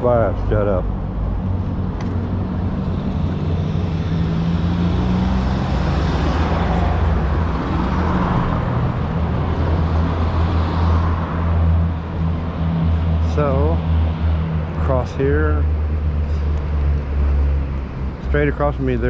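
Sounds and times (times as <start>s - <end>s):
road noise: 0.0s - 19.0s
vehicle engines running: 0.0s - 19.0s.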